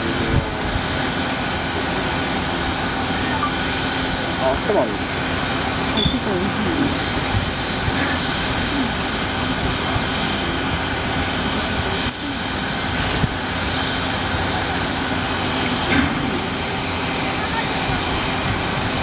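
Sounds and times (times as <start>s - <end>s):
faint high whine: 0.0s - 19.0s
steam locomotive hissing: 0.0s - 19.0s.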